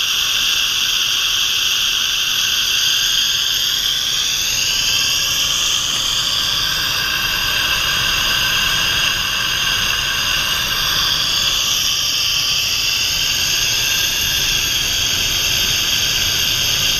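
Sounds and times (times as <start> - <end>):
gas venting hiss: 0.0 - 16.9
faint wavering whistling: 0.7 - 16.9.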